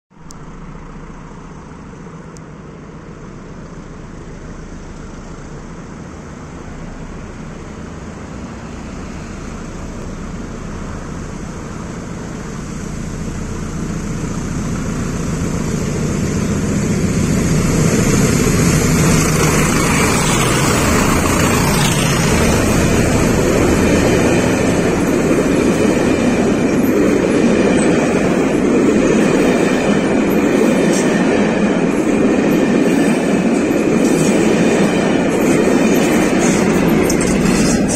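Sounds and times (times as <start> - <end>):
diesel locomotive engine: 0.1 - 37.9
train wheels rumbling on rails: 0.1 - 37.9.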